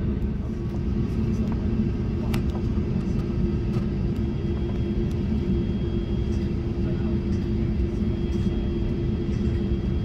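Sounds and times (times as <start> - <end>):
aircraft cabin rumble: 0.0 - 10.0
idling jet engine hum: 0.0 - 10.0.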